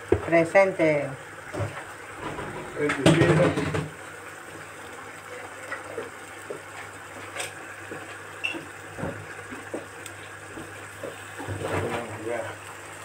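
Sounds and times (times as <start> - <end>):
sauce bubbling in a pan: 0.0 - 13.0.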